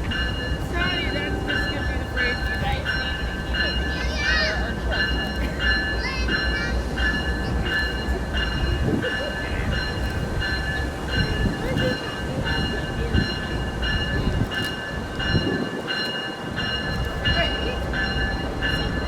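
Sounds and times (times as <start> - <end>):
freight train rumble: 0.0 - 19.0
train bell ringing: 0.0 - 19.0.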